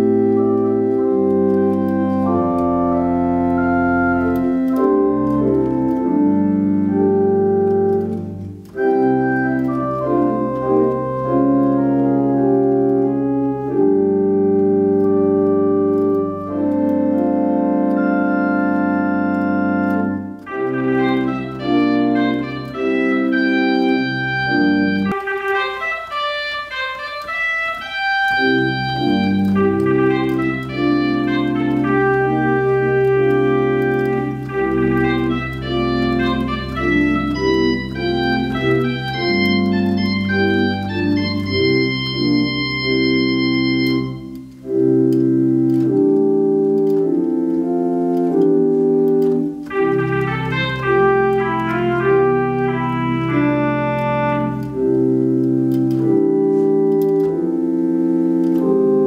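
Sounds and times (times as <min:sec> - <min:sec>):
organ playing sustained chords: 0:00.0 - 0:59.0.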